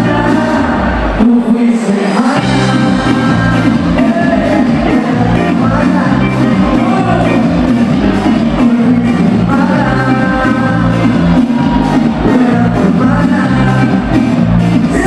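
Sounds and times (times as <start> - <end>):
bass notes: 0.0 - 1.4, 2.3 - 15.0
drums: 0.0 - 15.0
electric guitar: 0.0 - 15.0
person singing: 0.0 - 15.0.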